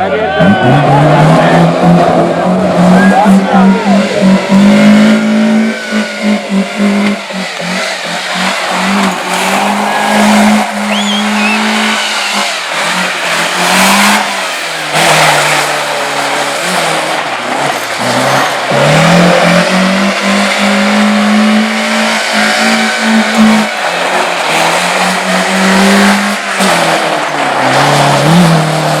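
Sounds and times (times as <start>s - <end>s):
racing car engine: 0.0s - 29.0s.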